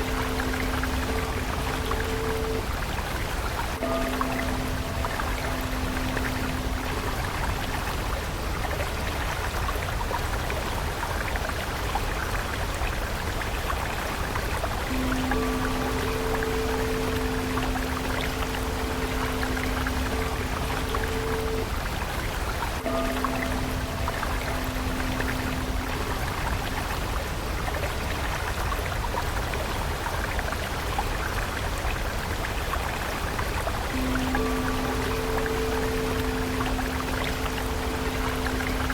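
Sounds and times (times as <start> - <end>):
soft held music tones: 0.0 - 29.8, 30.4 - 38.9
stream water rushing: 0.0 - 38.9.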